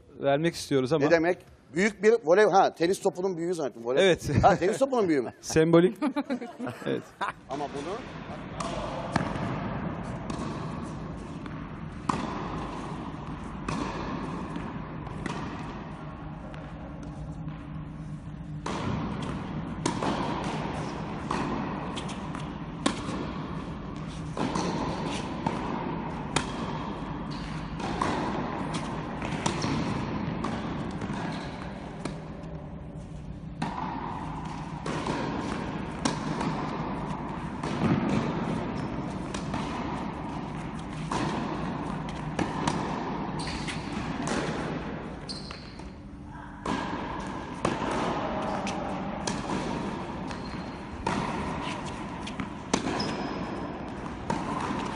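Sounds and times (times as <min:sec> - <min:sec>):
steady low hum: 0:02.7 - 0:54.9
tennis ball hits and bounces: 0:08.6 - 0:17.8, 0:18.4 - 0:32.7, 0:33.4 - 0:46.0, 0:46.6 - 0:54.9.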